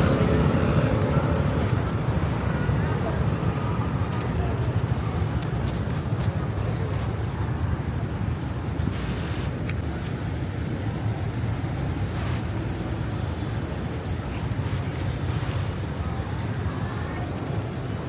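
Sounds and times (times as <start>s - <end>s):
city street traffic rumble: 0.0s - 18.0s.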